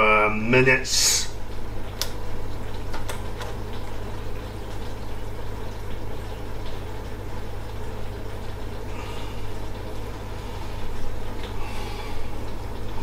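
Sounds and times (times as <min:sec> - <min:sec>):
constant low hum: 0:00.0 - 0:13.0
water simmering in a pan: 0:00.9 - 0:13.0.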